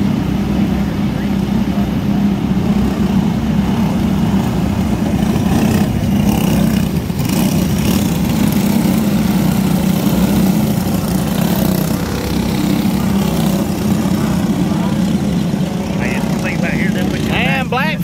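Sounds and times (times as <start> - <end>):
go-kart engines droning: 0.0 - 18.0.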